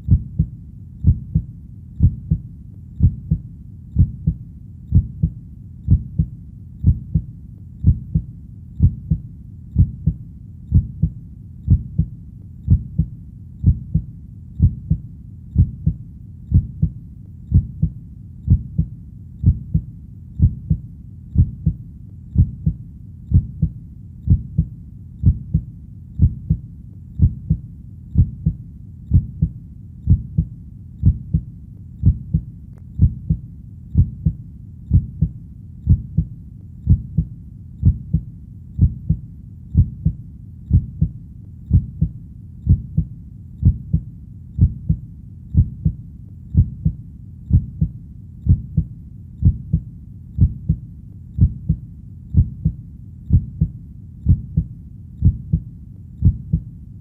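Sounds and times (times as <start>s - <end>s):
heartbeat thumps: 0.0s - 56.7s
low background rumble: 0.0s - 57.0s.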